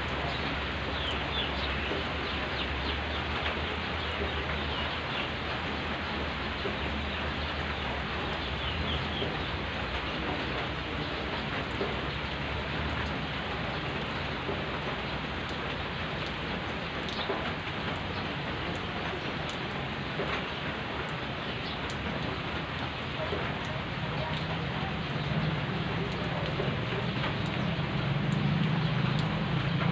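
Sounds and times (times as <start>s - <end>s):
rain falling on gravel and foliage: 0.0s - 29.9s.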